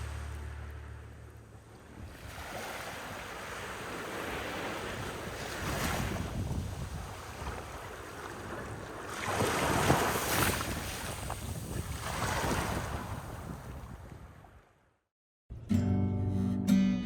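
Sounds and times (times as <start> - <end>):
ocean waves washing in: 0.0 - 13.9
wind rumbling on microphone: 0.0 - 14.6.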